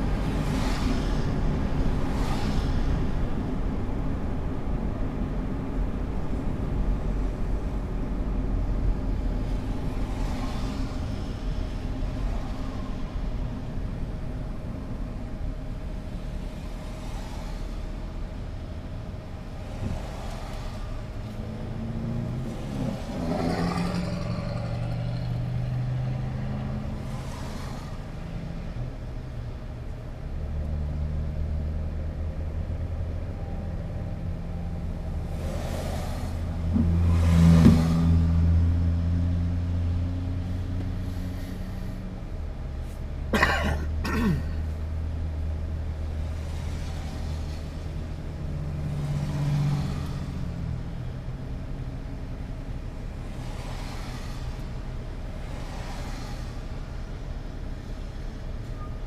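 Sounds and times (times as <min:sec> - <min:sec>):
low traffic hum: 0:00.0 - 0:59.0
vehicles passing by: 0:00.0 - 0:59.0.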